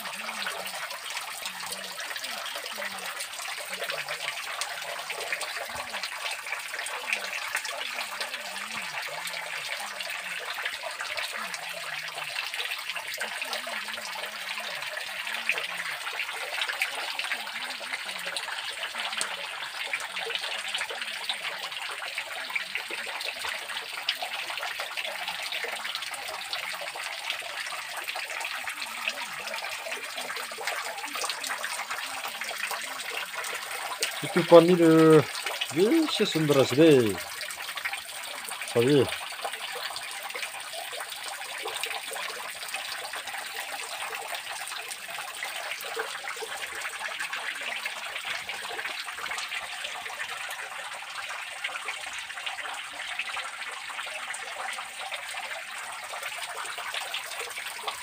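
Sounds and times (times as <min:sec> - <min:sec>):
water dripping into a pool: 0:00.0 - 0:58.0.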